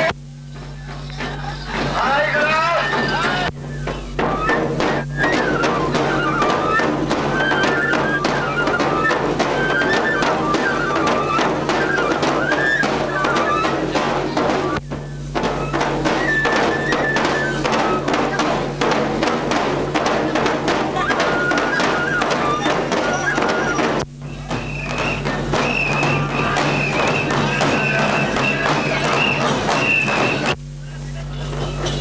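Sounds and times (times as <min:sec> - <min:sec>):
fast taiko drumming: 0:00.6 - 0:32.0
bamboo flute melody: 0:02.0 - 0:32.0.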